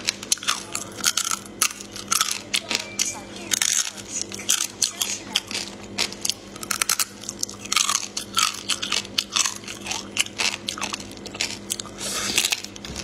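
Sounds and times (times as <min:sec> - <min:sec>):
crab shell crunching: 0:00.0 - 0:03.0, 0:03.6 - 0:13.0
faint steady hum: 0:00.0 - 0:13.0.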